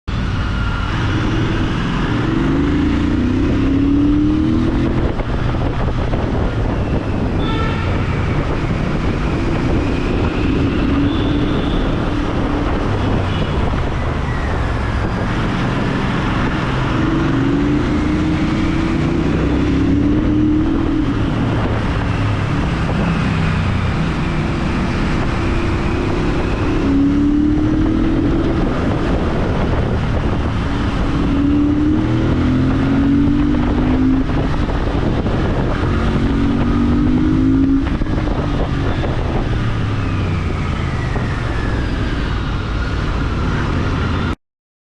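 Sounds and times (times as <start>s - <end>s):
motorcycle engine revving: 0.3s - 44.3s.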